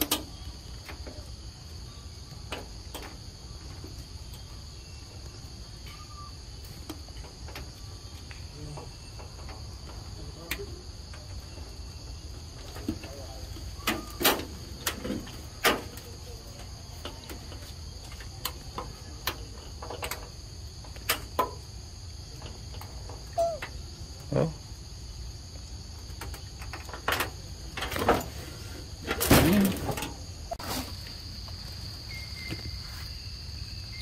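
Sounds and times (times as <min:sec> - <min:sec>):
insects chorus: 0:00.0 - 0:34.0.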